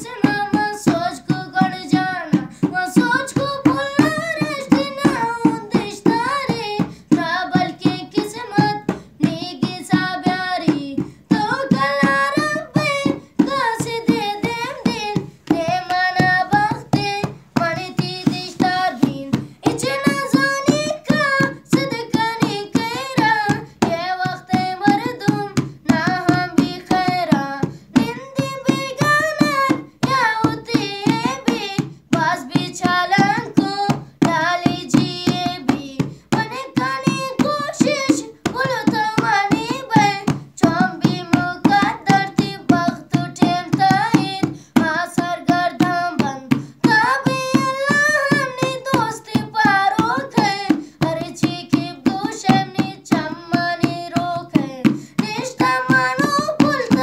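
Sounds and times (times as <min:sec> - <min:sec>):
boy singing: 0:00.0 - 0:57.0
hand percussion beat: 0:00.0 - 0:57.0.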